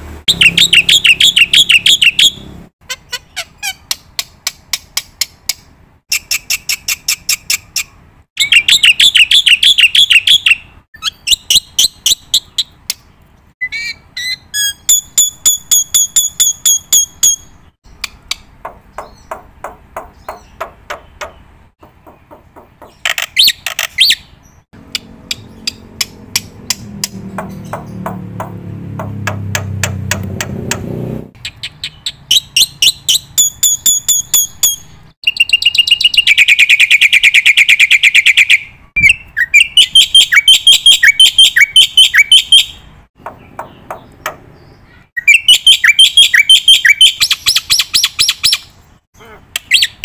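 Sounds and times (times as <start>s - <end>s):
bird chirping and trilling: 0.3s - 30.1s, 30.9s - 50.0s.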